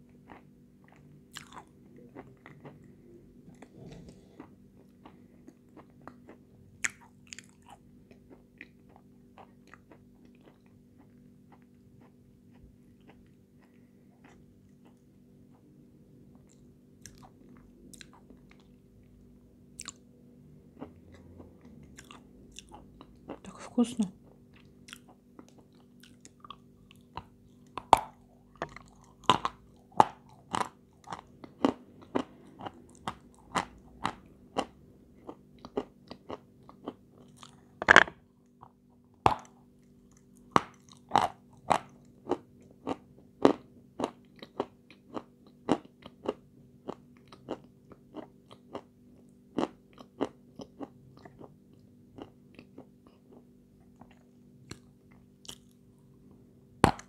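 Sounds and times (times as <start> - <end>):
crunching and chewing: 0.0 - 20.1, 20.7 - 23.5, 24.2 - 55.9.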